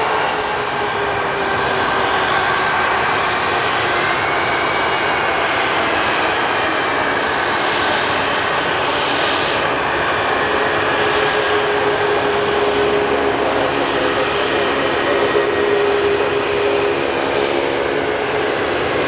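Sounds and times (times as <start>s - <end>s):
jet engines running at low power: 0.0s - 19.0s.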